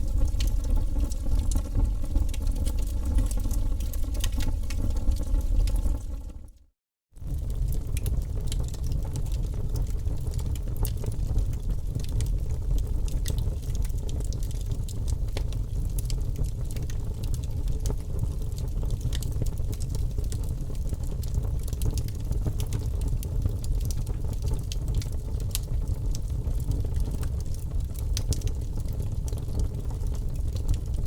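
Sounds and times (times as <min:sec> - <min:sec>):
fire crackling and popping: 0:00.0 - 0:06.6, 0:07.2 - 0:31.0
low fire rumble: 0:00.0 - 0:06.6, 0:07.2 - 0:31.0.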